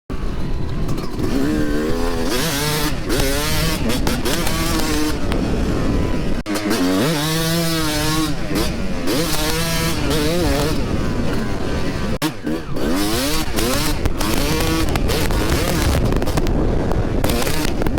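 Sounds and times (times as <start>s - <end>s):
dirt bike engine revving: 0.1s - 17.9s
wind buffeting microphone: 0.1s - 17.9s.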